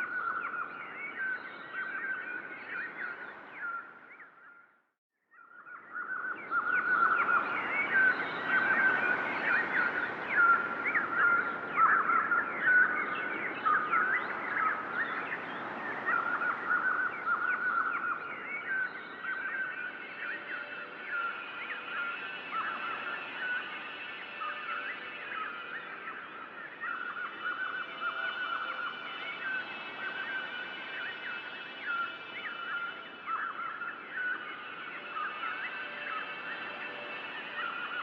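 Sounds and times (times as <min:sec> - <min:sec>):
small birds chirping and twittering: 0:00.0 - 0:04.7, 0:05.3 - 0:38.0.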